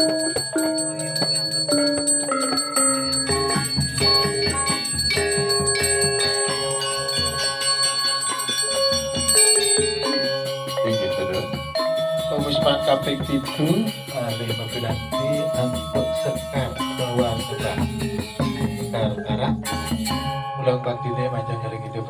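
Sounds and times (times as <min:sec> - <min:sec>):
gamelan melody of bronze tones: 0:00.0 - 0:22.0
high ringing of bells: 0:00.0 - 0:22.0.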